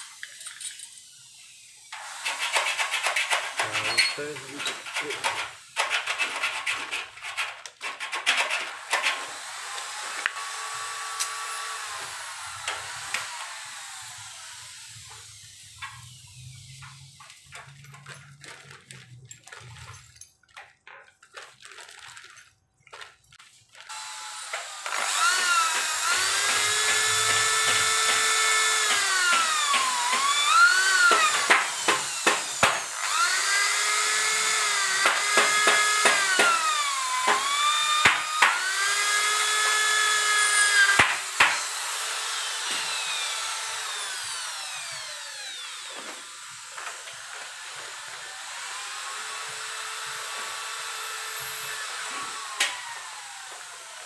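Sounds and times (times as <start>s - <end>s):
electric drill whining: 0.0s - 6.1s, 8.4s - 20.0s, 23.7s - 54.0s.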